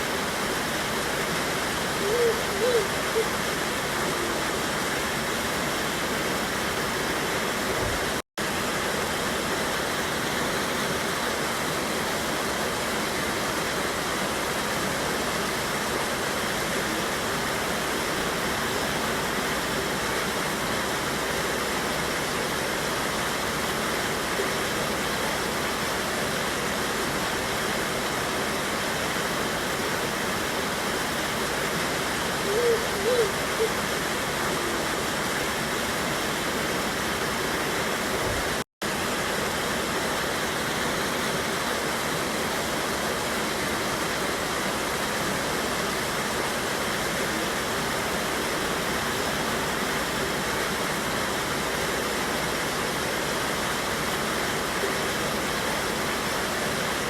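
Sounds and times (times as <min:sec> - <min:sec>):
river rushing over rapids: 0:00.0 - 0:57.0.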